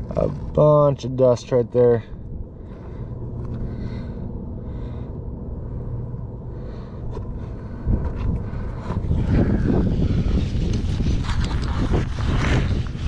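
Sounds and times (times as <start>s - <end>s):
low engine hum: 0.0s - 13.0s
wind rumble on microphone: 2.0s - 13.0s.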